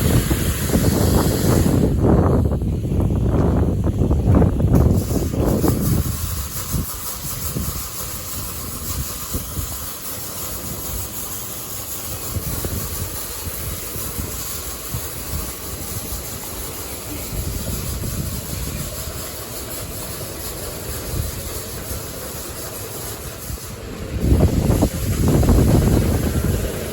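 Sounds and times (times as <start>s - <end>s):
car wash hissing: 0.0s - 26.9s.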